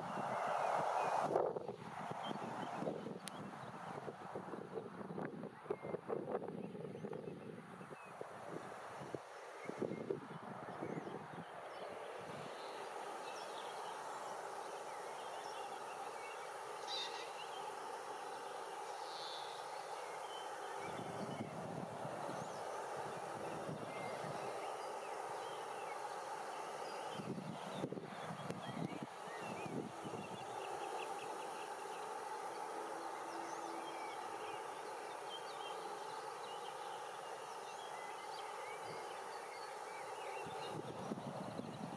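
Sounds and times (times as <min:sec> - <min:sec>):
outdoor background hiss: 0:00.0 - 0:41.9
songbirds chirping: 0:00.0 - 0:41.9.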